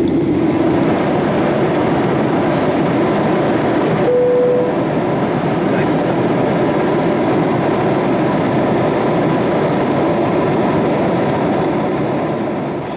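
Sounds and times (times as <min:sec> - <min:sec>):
jet engines humming: 0:00.0 - 0:12.9.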